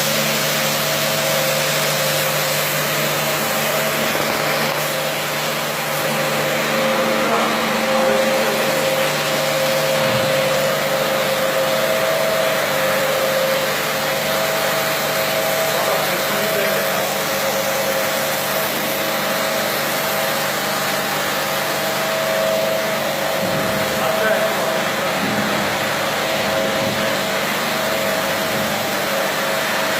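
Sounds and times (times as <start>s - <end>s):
carpet washing machine running: 0.0s - 29.9s.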